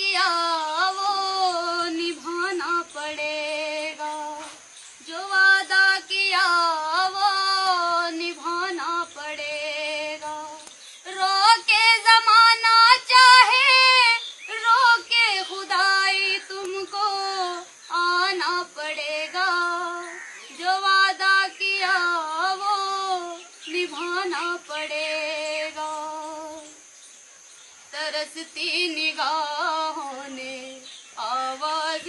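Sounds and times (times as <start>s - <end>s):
woman singing unaccompanied: 0.0s - 27.0s, 27.8s - 32.0s.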